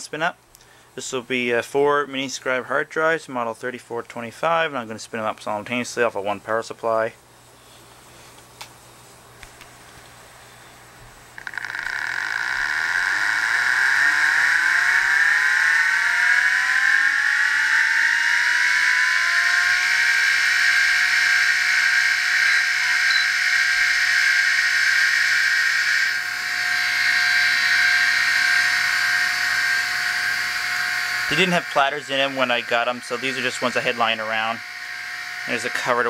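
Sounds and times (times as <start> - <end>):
hard drives whirring and whining: 6.4 - 36.0.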